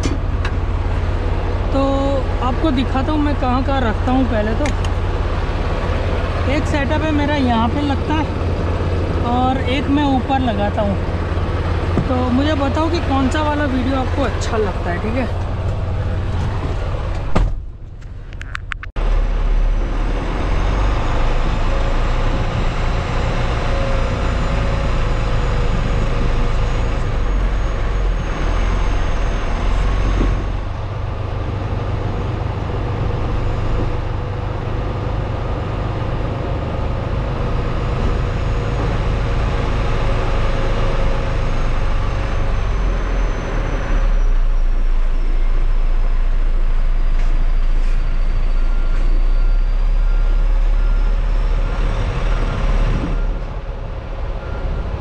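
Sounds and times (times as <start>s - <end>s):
diesel truck engine rumbling: 0.0s - 55.0s.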